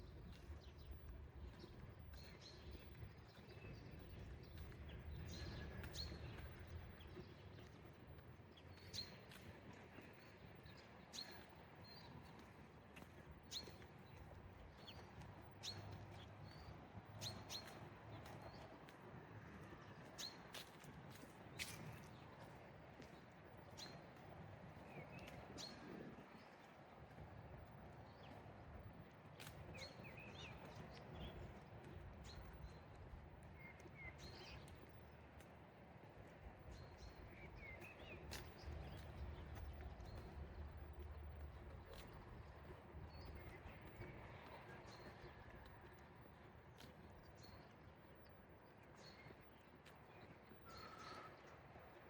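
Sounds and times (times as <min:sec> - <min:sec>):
faint low city rumble: 0:00.0 - 0:52.0.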